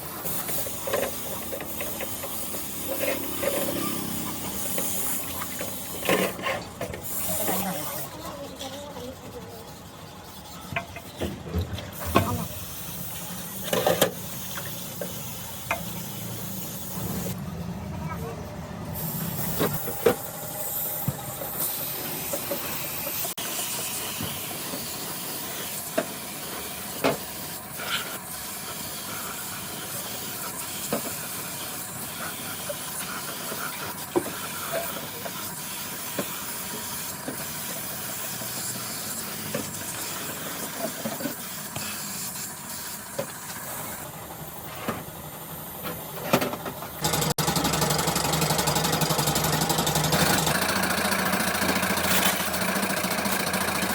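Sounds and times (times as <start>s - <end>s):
dense machine noise: 0.0s - 53.9s
hissing workshop noise: 0.0s - 53.9s.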